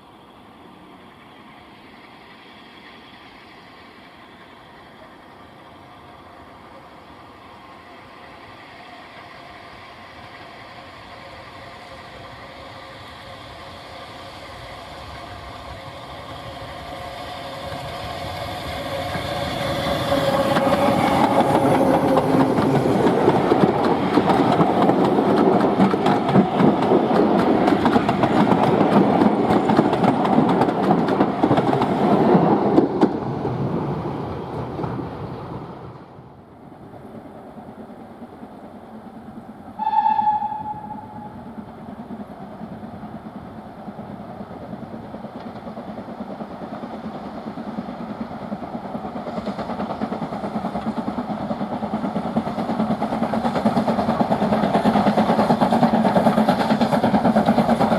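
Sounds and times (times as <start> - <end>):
steam train passing: 0.0 - 57.9.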